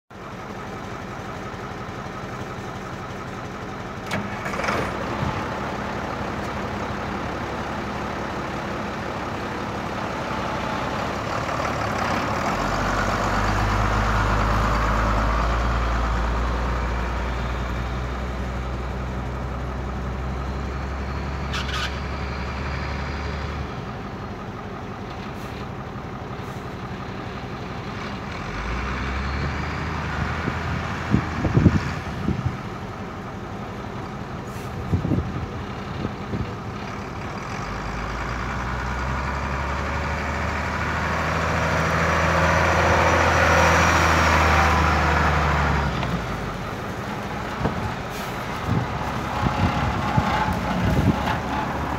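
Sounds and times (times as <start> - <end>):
truck engine idling: 0.1 - 51.9.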